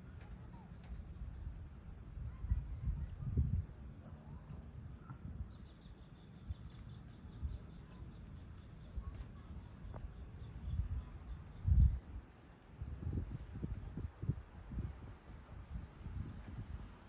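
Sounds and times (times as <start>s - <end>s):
insects trilling: 0.0s - 17.0s
pulsing insect chirp: 0.0s - 17.0s.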